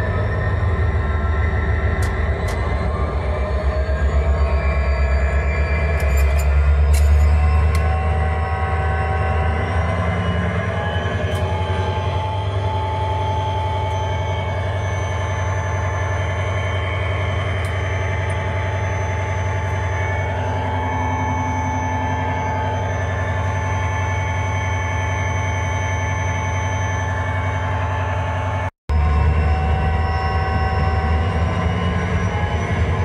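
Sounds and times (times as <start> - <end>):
heavy machine humming: 0.0 - 33.0.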